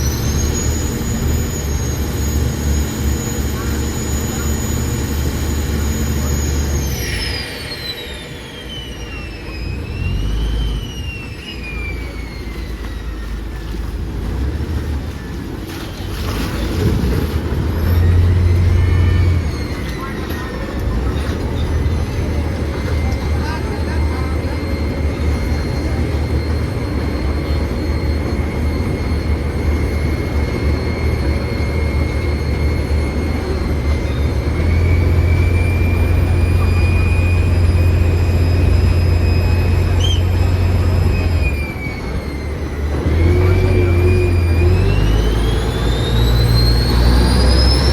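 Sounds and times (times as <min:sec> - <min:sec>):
high whine falling in pitch: 0:00.0 - 0:15.2, 0:16.8 - 0:47.9
boat engine low rumble: 0:00.0 - 0:47.9.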